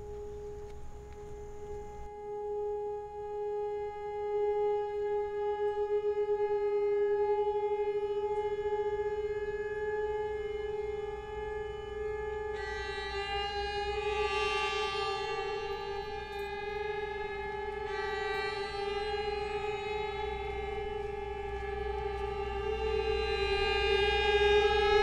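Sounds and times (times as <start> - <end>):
long held music note: 0.0 - 25.0.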